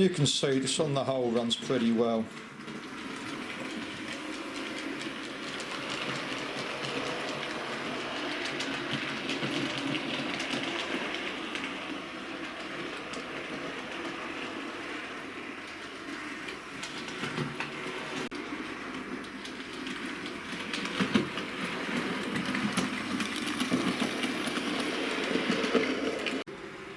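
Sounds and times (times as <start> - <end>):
wheels clicking over rail joints: 0.0 - 26.5
model train motor whirring: 1.8 - 18.3, 18.9 - 26.4.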